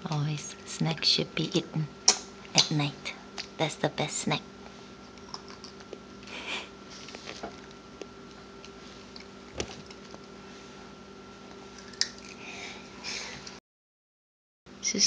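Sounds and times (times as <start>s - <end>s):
room tone hum: 0.0s - 13.6s.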